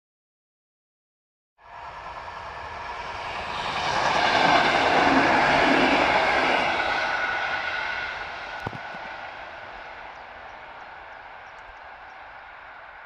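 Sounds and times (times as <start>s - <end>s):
passenger train passing: 1.6s - 13.0s.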